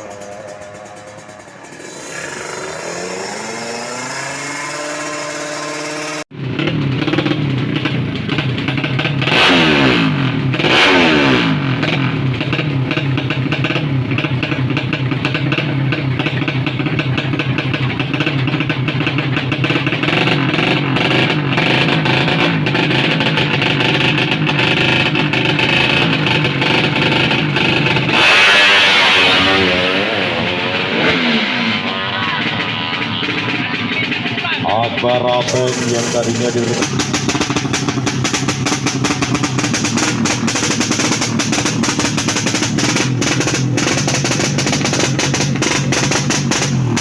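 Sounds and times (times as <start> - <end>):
racing motorcycle engine revving: 0.0 - 47.0.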